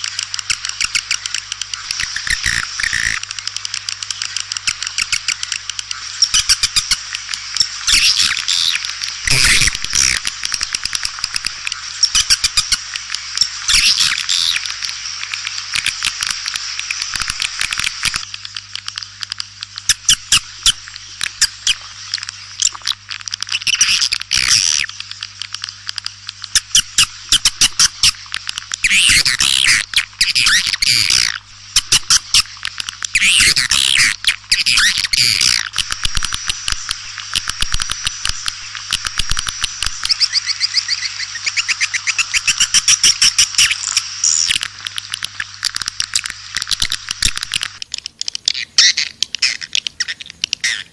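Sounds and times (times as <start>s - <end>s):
swiftlet clicks: 0.0s - 50.8s
steady low hum: 0.0s - 50.9s
swiftlets twittering: 0.0s - 50.9s.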